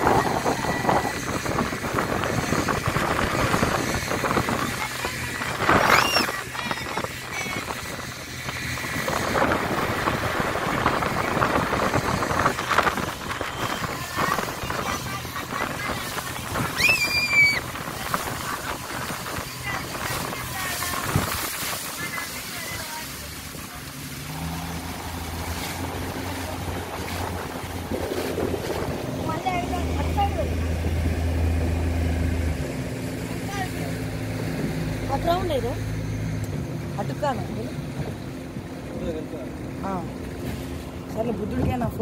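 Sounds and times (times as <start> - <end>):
boat engine hum: 0.0 - 42.0
water wash: 0.0 - 42.0
wind buffeting microphone: 0.0 - 42.0.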